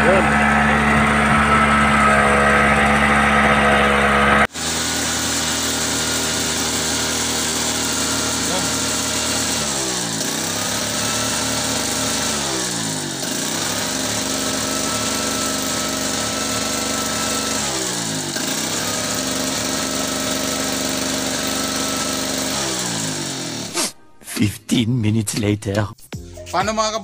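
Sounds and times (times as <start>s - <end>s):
portable generator engine running: 0.0s - 23.8s.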